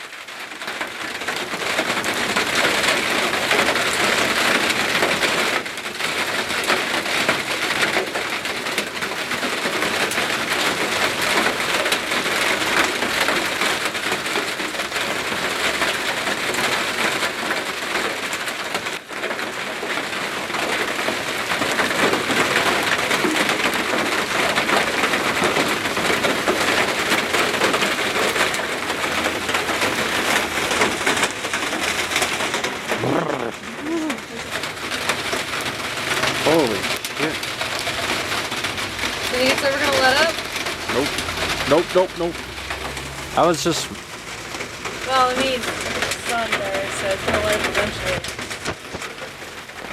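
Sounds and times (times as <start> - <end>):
hail and rain pelting down: 0.0 - 49.9.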